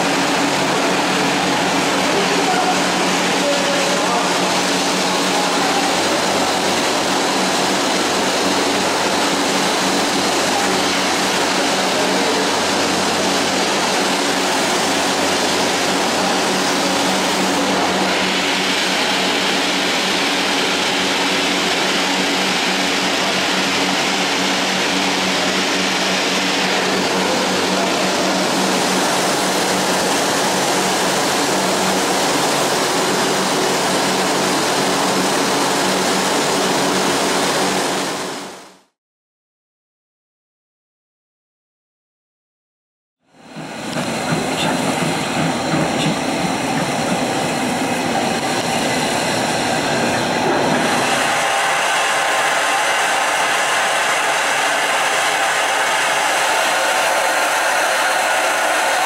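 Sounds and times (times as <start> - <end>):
steam locomotive burner rushing: 0.0 - 38.7, 43.4 - 59.0.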